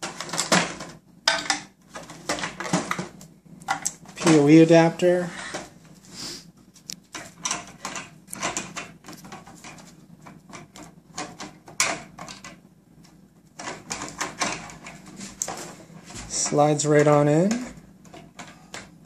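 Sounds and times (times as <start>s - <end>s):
plastic clicks and rustling: 0.0s - 4.5s, 6.8s - 19.0s.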